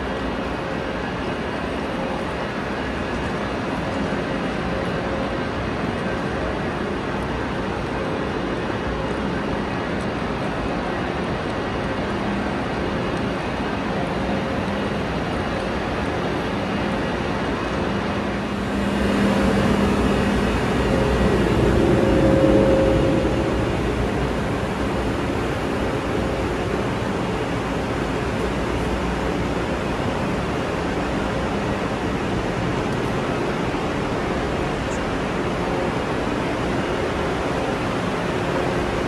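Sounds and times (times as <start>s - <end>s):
high-speed train humming: 0.0s - 39.0s
faint steady tones: 7.6s - 39.0s.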